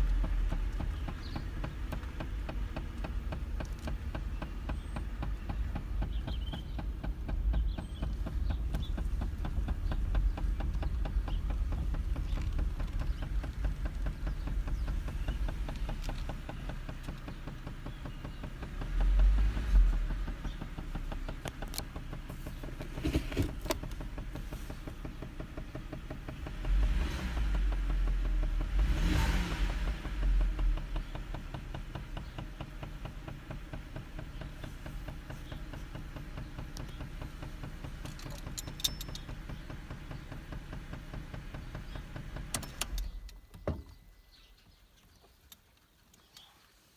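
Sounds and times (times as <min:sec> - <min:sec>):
car engine idling with knock: 0:00.0 - 0:44.7
low engine rumbles: 0:00.0 - 0:46.9.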